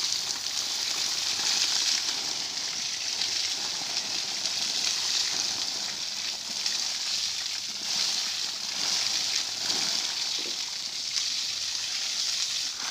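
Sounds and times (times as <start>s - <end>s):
hose water spraying on concrete: 0.0s - 12.9s.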